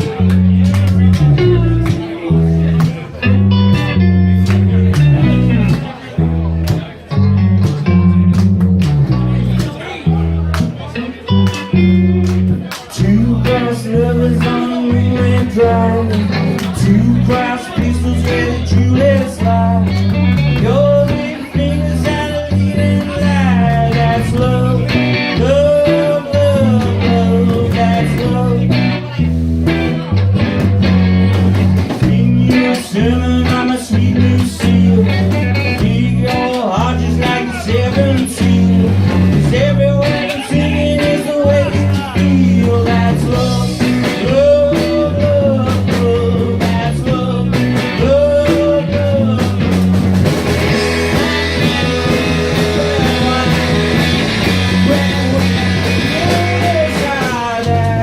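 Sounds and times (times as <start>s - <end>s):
bass line: 0.0s - 58.0s
drums: 0.0s - 58.0s
electric guitars: 0.0s - 58.0s.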